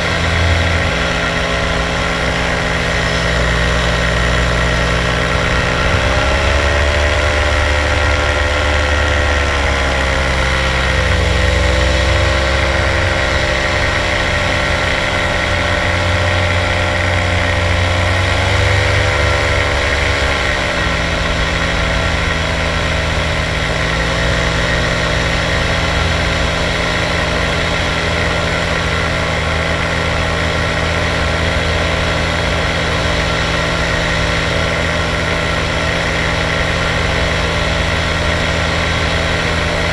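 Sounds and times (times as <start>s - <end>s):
microlight aircraft engine drone: 0.0s - 39.9s.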